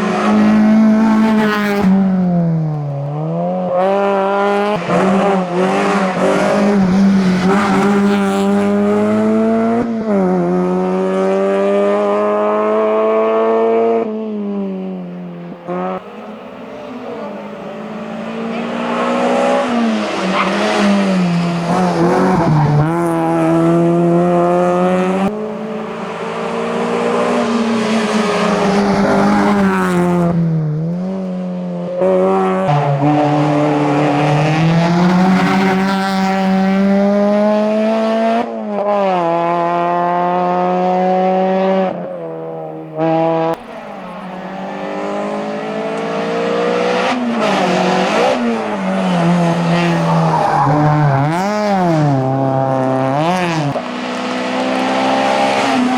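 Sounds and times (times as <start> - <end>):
racing car engine at full throttle: 0.0 - 55.9.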